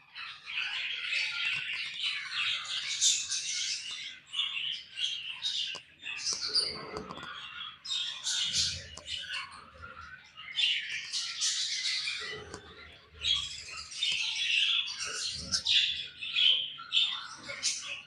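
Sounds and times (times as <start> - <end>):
baby budgerigars chirping: 0.1 - 18.0.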